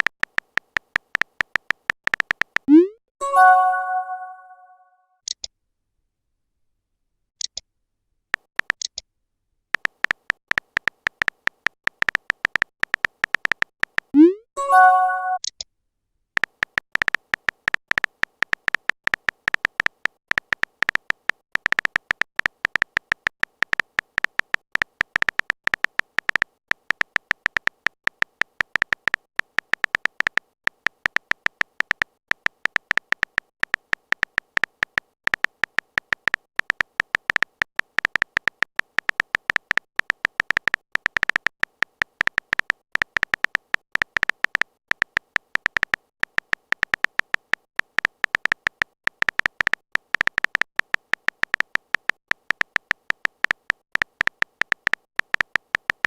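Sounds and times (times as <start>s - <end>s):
keyboard typing clicks: 0.0s - 5.5s, 7.4s - 7.6s, 8.4s - 9.0s, 9.8s - 15.6s, 16.4s - 56.0s.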